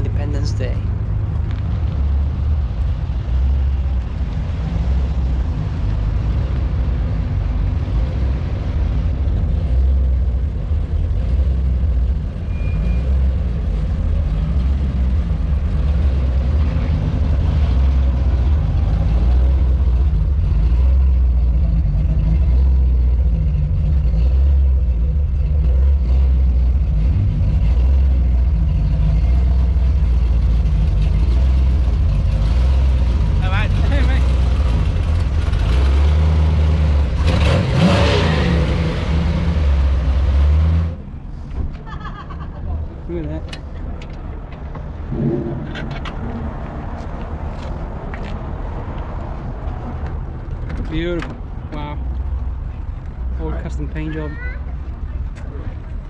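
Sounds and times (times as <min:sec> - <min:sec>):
car engines cruising: 0:00.0 - 0:56.0.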